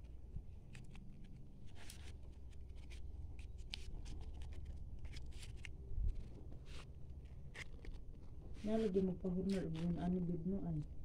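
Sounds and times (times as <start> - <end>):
paper rustling and crinkling: 0.6 - 11.0.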